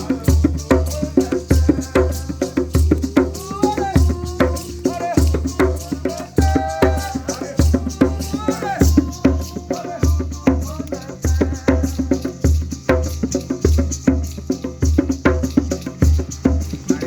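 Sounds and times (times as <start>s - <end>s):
voices singing a worship song: 0.0s - 13.6s, 15.5s - 17.0s
shaken rattles: 0.0s - 17.0s.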